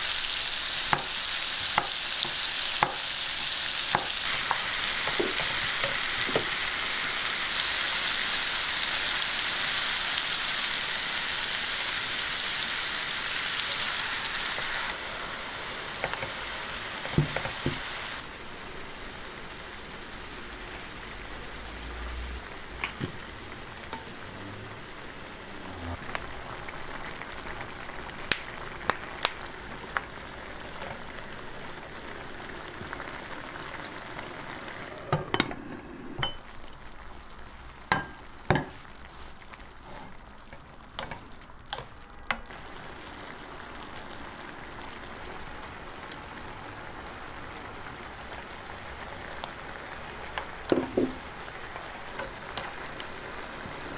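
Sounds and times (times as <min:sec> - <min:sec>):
sauce bubbling and sizzling: 0:00.0 - 0:53.9.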